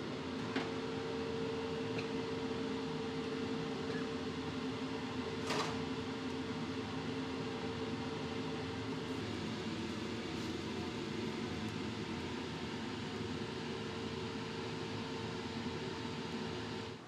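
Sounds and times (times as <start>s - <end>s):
kitchen machinery humming: 1.0s - 17.0s.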